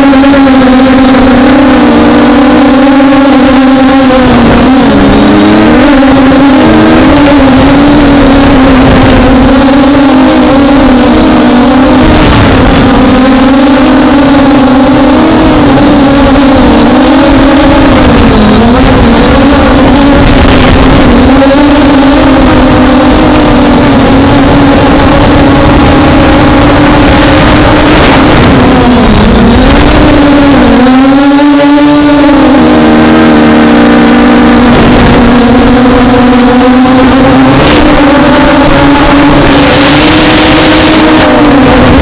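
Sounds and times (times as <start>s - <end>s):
drone propellers buzzing: 0.0s - 42.0s.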